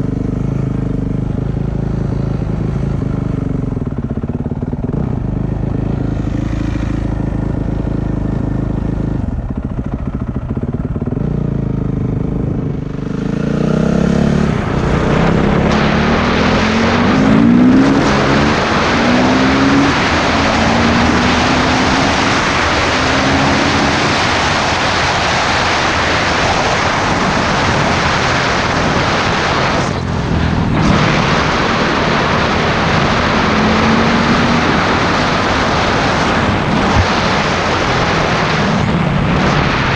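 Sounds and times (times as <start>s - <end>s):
motorcycle engine shifting gears: 0.0s - 39.9s
loud rushing noise: 3.9s - 11.1s, 12.8s - 39.9s.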